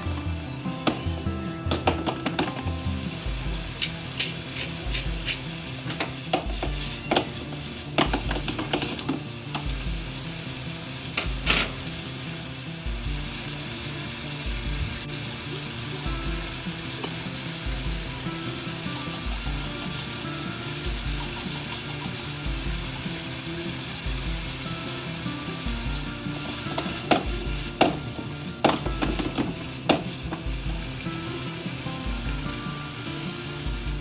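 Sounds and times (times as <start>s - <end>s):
chicken and onion sizzling in pan: 0.0s - 34.0s.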